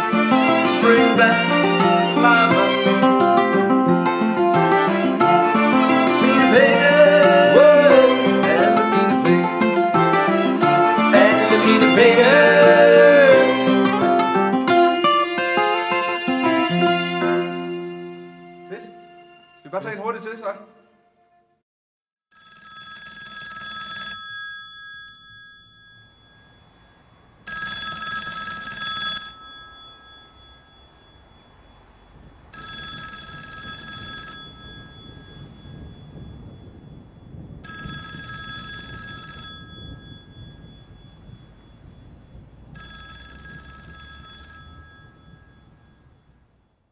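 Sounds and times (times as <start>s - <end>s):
telephone ringing: 0.0s - 19.8s, 22.3s - 41.9s, 42.7s - 46.3s.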